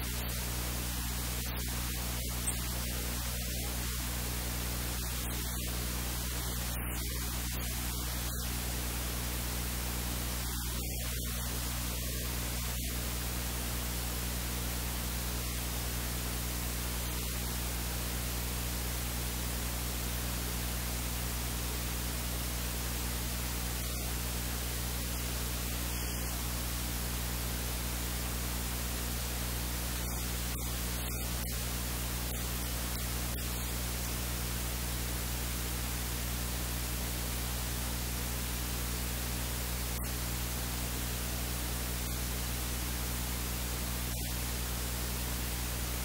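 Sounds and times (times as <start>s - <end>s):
low electrical hum: 0.0s - 46.0s
recording hiss: 0.0s - 46.0s.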